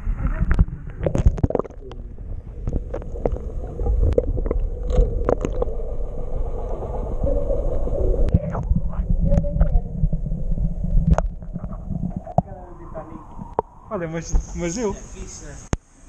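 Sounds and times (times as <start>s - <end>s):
boat engine rumbling: 0.0s - 15.4s.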